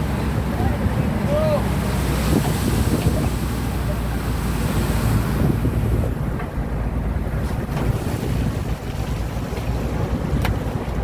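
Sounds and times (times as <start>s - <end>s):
sea washing along boat: 0.0s - 11.0s
wind rumbling on microphone: 0.0s - 11.0s.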